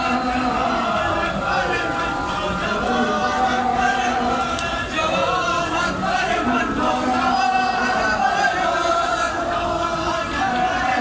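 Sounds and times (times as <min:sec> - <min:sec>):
men chanting together: 0:00.0 - 0:11.0.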